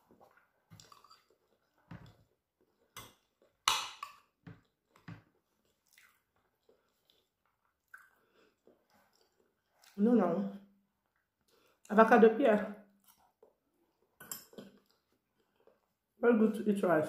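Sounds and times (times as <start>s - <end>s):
person chewing: 0.0s - 10.0s, 11.0s - 11.9s, 12.9s - 16.0s.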